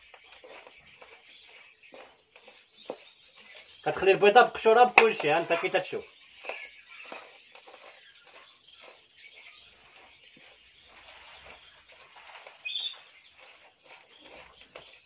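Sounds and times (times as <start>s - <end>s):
eggshell crackling: 0.0s - 15.0s
small birds chirping: 0.0s - 15.0s.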